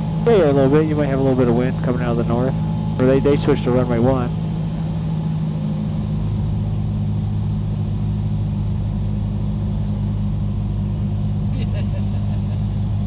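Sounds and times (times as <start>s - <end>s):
plane engine and propeller droning: 0.0s - 13.0s.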